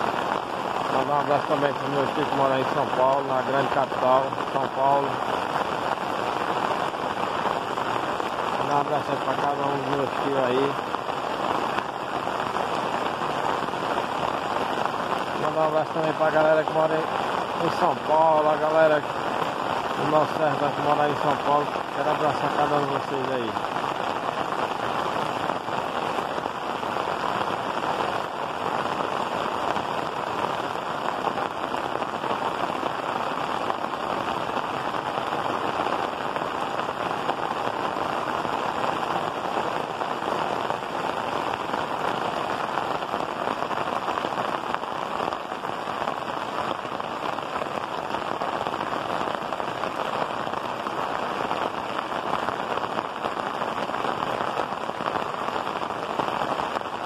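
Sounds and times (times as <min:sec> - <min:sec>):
heavy rain on tile roof: 0:00.0 - 0:57.0.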